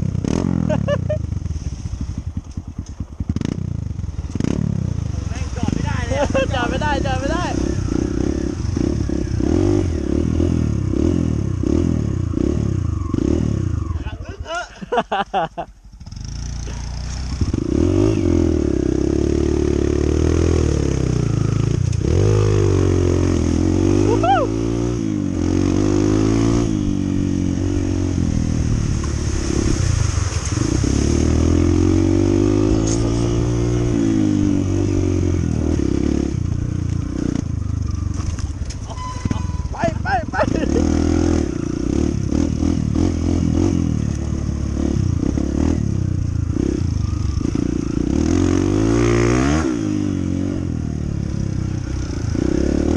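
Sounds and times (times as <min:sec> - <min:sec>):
motorcycle engine revving: 0:00.0 - 0:14.5, 0:15.6 - 0:52.9.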